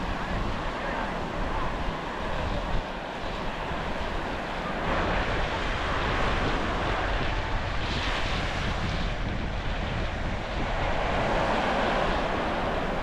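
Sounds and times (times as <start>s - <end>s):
ocean surf washing onto sand: 0.0s - 13.0s
wind buffeting microphone: 0.0s - 13.0s.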